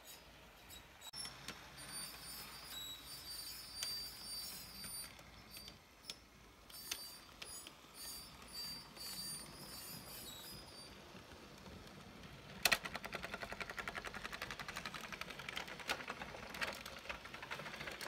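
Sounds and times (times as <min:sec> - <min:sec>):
faint mechanical whir: 0:00.0 - 0:18.0
model train wheels clicking on track: 0:01.2 - 0:18.0.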